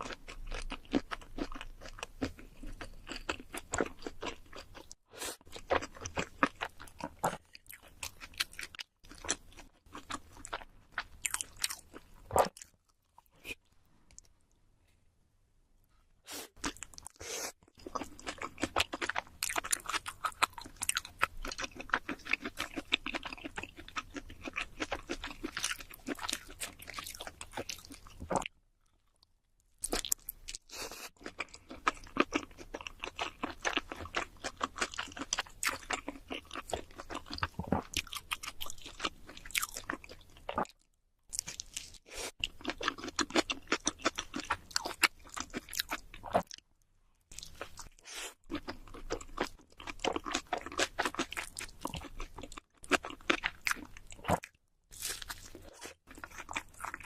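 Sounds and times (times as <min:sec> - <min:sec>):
close-miked chewing and crunching: 0:00.0 - 0:14.6, 0:16.5 - 0:57.0.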